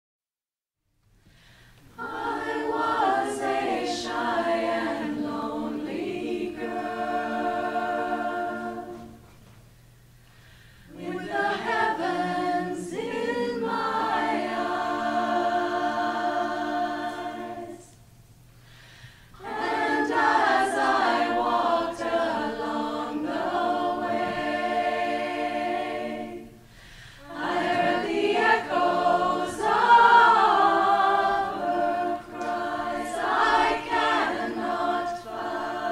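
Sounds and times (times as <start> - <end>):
mixed choir singing a cappella: 1.9 - 9.4, 10.9 - 18.0, 19.3 - 35.9.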